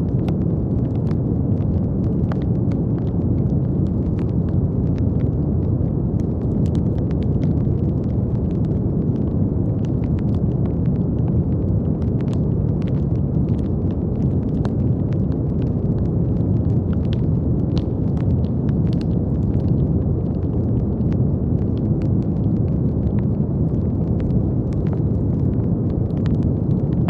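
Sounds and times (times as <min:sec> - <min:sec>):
faint crackling clicks: 0:00.1 - 0:27.0.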